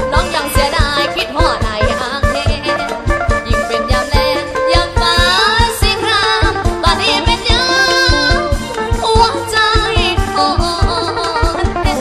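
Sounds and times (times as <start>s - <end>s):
quick drum beat: 0.0s - 12.0s.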